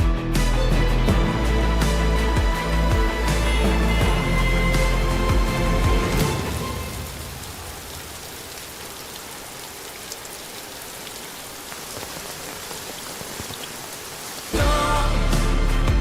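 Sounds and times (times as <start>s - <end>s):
steady rain falling: 1.4s - 15.6s.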